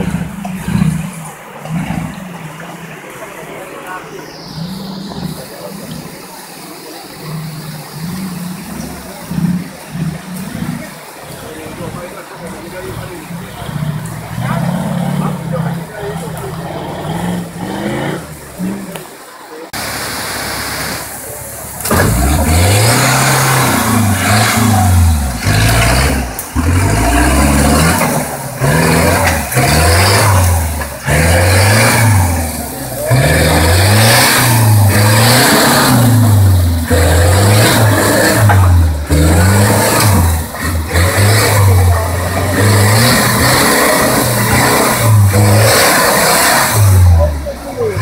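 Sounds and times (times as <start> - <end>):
off-road engine revving: 0.0 - 48.0
stream water splashing: 0.0 - 48.0.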